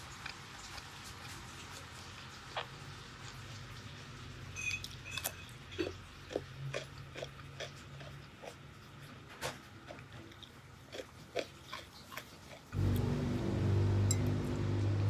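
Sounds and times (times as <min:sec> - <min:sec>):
wet crunchy chewing: 0:00.0 - 0:03.6, 0:04.9 - 0:13.6.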